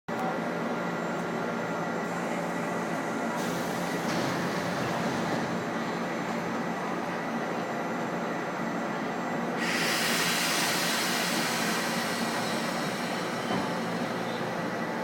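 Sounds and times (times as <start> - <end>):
train rail noise: 0.1 - 15.0.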